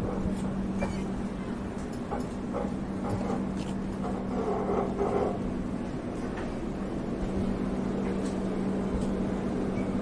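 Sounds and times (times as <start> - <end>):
train humming at platform: 0.0 - 10.0.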